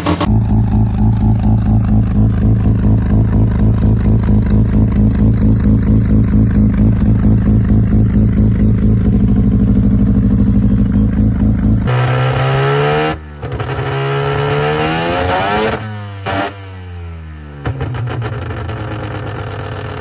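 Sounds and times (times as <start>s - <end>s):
rotary engine revving: 0.0s - 16.8s.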